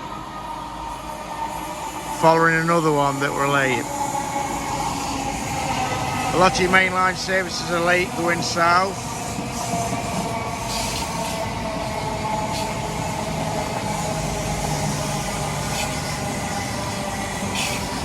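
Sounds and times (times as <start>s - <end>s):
train motor hum: 0.0s - 18.0s
train wheels rumbling on rails: 0.0s - 18.0s.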